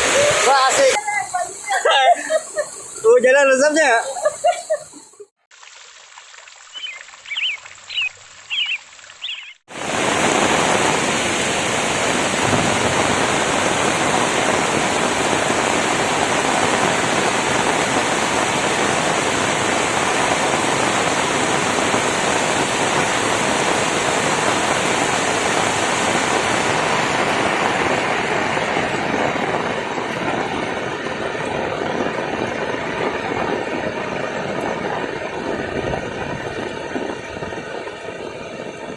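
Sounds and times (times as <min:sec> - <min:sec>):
heavy rain pouring: 0:00.0 - 0:05.3, 0:06.7 - 0:38.9.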